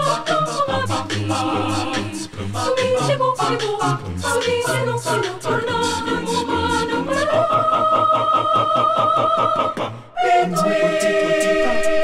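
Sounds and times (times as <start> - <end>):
group singing a cappella: 0.0 - 12.0.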